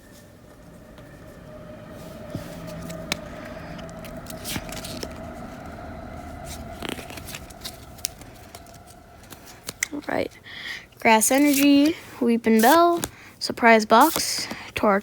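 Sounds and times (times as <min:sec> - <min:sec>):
faint steady hum: 0:00.0 - 0:13.4.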